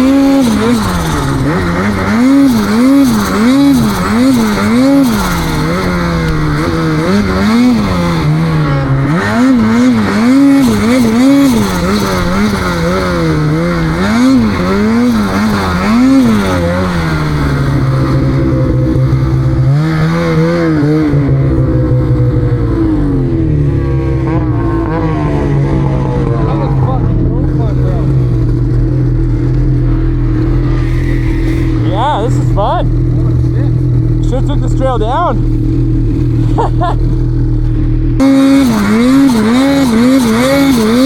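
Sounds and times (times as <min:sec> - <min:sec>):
snowmobile engine revving: 0:00.0 - 0:41.0.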